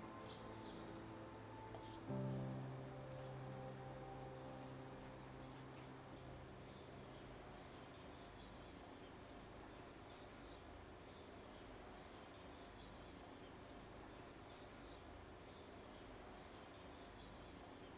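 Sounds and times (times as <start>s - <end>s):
faint birdsong chirps: 0.0s - 17.9s
faint steady hiss: 0.0s - 17.9s.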